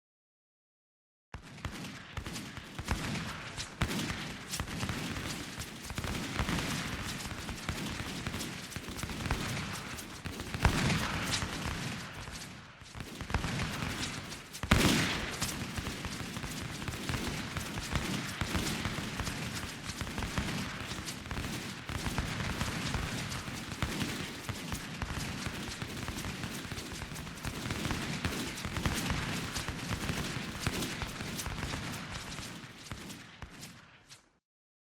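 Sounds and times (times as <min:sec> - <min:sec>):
loud close gunshots echoing: 0:01.4 - 0:34.0
volley of gunshots: 0:01.4 - 0:34.3.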